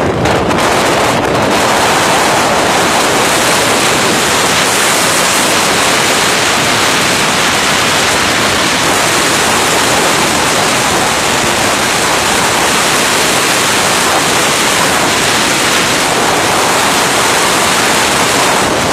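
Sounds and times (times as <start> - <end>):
strong wind on microphone: 0.0 - 18.9.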